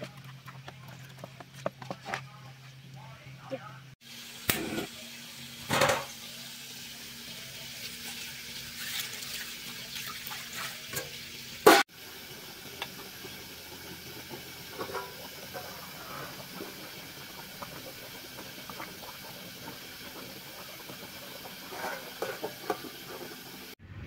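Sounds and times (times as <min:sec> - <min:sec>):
pot hissing and bubbling: 0:04.0 - 0:23.8.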